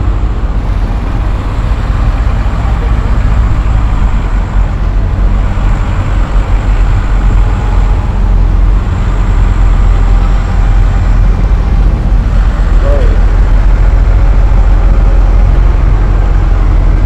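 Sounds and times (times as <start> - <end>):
other tractor engines: 0.0 - 17.0
tractor diesel engine rumbling: 0.0 - 17.0.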